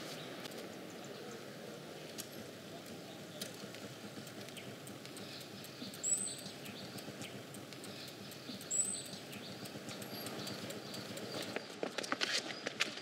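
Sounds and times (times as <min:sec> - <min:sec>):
light clicks: 0:02.0 - 0:13.0.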